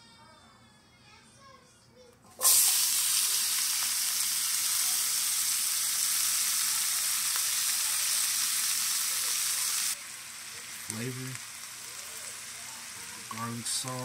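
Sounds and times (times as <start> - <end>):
food sizzling in a frying pan: 2.4 - 14.0.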